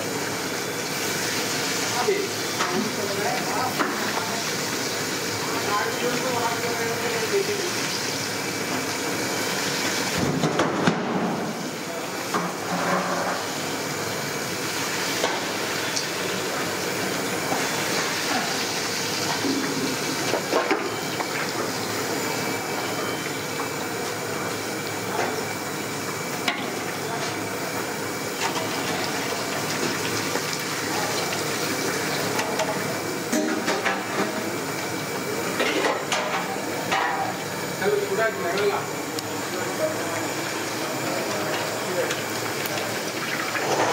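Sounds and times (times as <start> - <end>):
oil deep-frying sizzle: 0.0 - 43.9.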